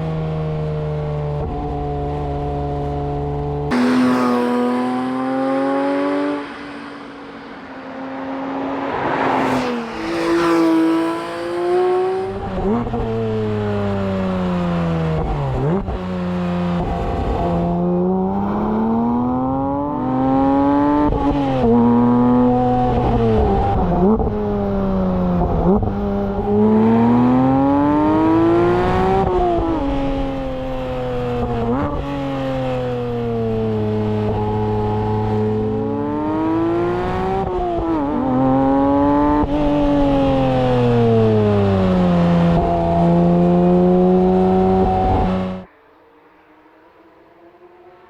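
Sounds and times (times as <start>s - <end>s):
sports car engine accelerating: 0.0s - 48.0s.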